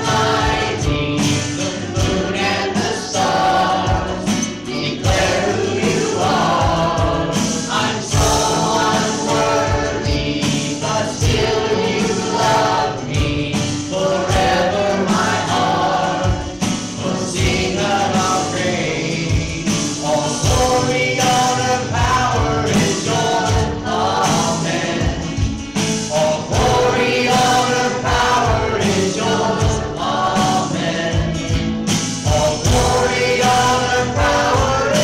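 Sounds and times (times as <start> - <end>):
congregation singing worship song: 0.0 - 35.0
instrumental accompaniment: 0.0 - 35.0.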